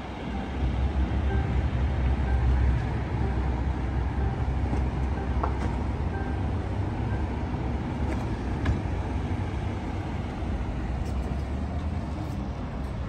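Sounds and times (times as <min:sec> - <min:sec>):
road and tyre rumble: 0:00.0 - 0:13.0.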